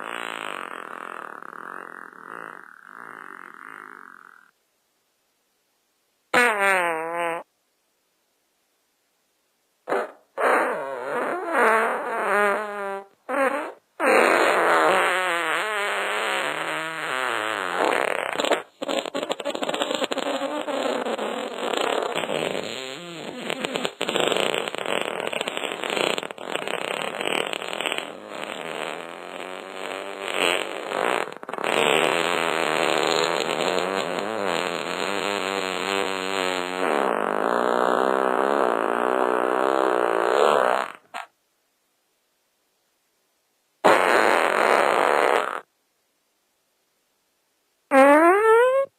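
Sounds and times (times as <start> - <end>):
farts: 0.0 - 4.6, 6.3 - 7.5, 9.9 - 41.3, 43.8 - 45.7, 47.9 - 48.9.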